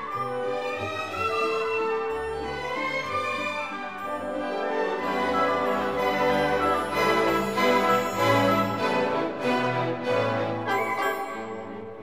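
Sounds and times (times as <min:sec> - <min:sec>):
orchestral string music: 0:00.0 - 0:12.0.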